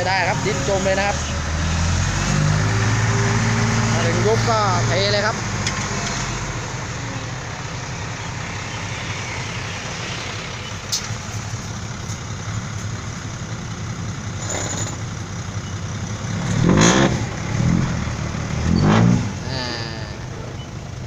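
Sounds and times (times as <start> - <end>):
dump truck engine running: 0.0 - 21.0.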